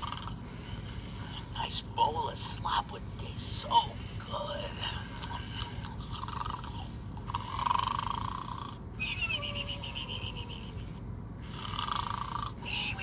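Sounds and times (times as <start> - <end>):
steady low hum: 0.0 - 13.0
toy snoring: 0.0 - 13.0.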